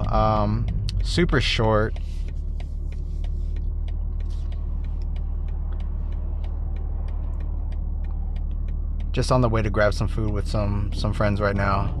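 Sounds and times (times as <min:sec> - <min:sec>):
car engine hum from cabin: 0:00.0 - 0:12.0
light ticks: 0:00.0 - 0:12.0.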